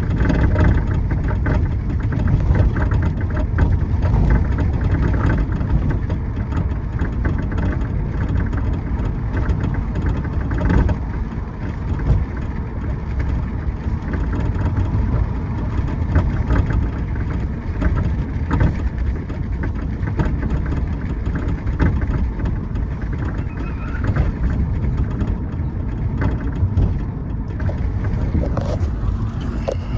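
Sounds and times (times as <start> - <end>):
road and engine rumble: 0.0 - 29.9
suspension clicking: 0.0 - 29.9.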